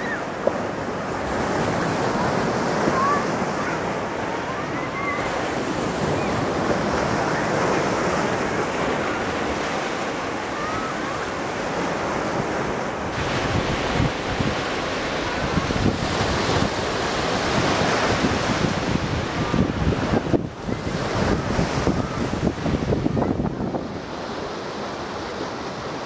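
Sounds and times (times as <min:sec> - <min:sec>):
sea surf breaking on shore: 0:00.0 - 0:26.0
wind buffeting microphone: 0:00.0 - 0:26.0.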